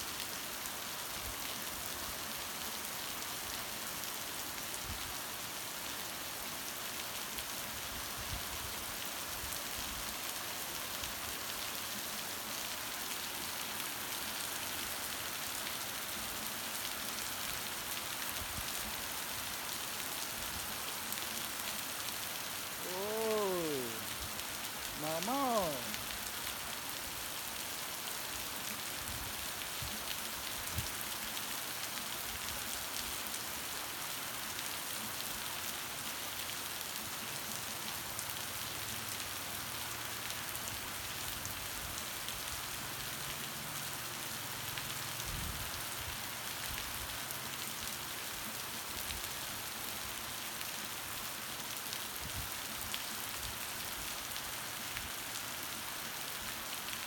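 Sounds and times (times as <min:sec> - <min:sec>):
heavy rain falling: 0:00.1 - 0:57.0.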